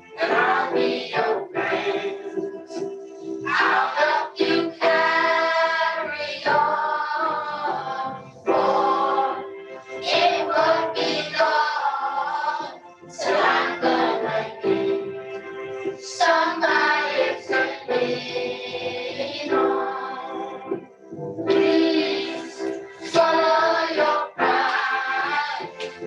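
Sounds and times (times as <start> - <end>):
backing track music: 0.0 - 26.0
children singing in unison: 0.1 - 15.2, 15.9 - 20.8, 21.5 - 26.0.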